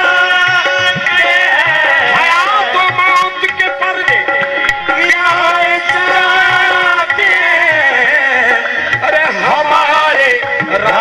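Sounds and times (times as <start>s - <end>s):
hand drum beat: 0.0s - 11.0s
harmonium tones: 0.0s - 11.0s
person singing: 0.0s - 11.0s.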